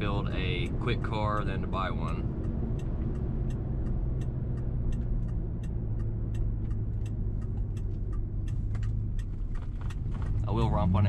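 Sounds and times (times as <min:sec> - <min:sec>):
car engine exhaust drone: 0:00.0 - 0:11.0
sharp regular ticking: 0:00.0 - 0:11.0.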